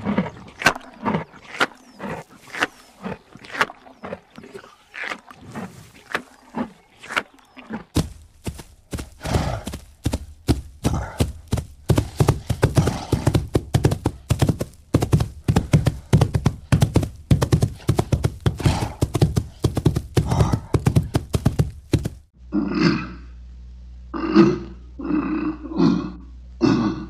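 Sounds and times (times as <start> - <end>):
animal chewing grass: 0.0 - 22.2.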